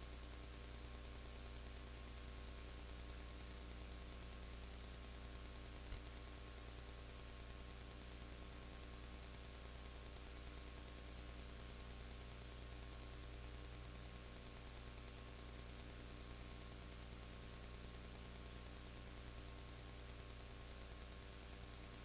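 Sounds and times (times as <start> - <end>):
electrical hum: 0.0 - 22.0
tape hiss: 0.0 - 22.0.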